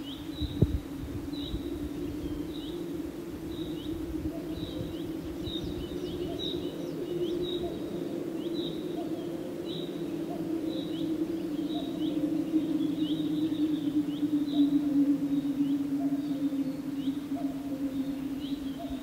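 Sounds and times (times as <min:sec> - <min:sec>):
bird chirping: 0:03.5 - 0:19.0.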